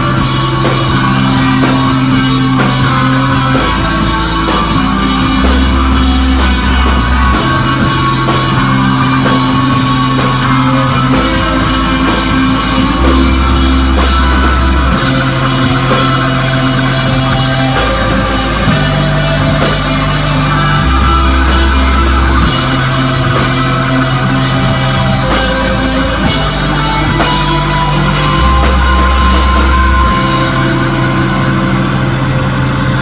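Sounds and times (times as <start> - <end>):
drums: 0.0 - 33.0
guitars: 0.0 - 33.0
held bass notes: 0.0 - 33.0.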